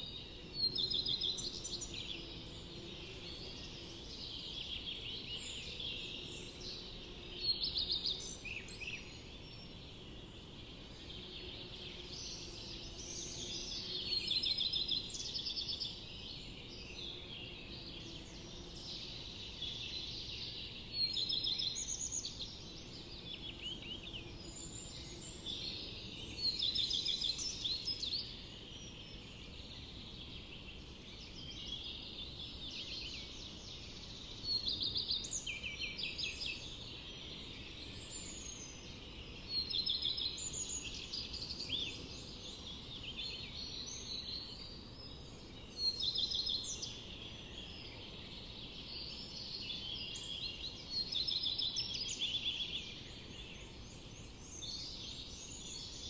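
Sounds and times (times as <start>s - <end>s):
low background hiss: 0.0s - 56.0s
songbirds chirping and trilling: 0.0s - 56.0s.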